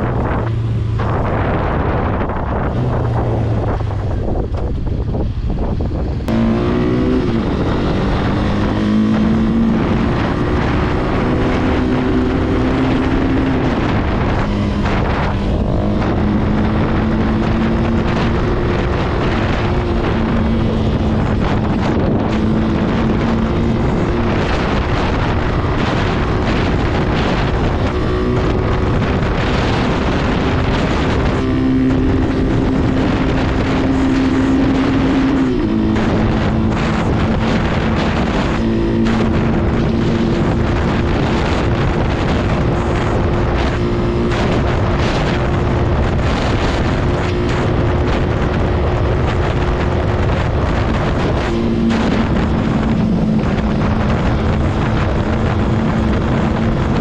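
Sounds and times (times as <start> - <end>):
motorcycle engine at high revs: 0.0 - 57.0
wind buffeting microphone: 0.0 - 57.0.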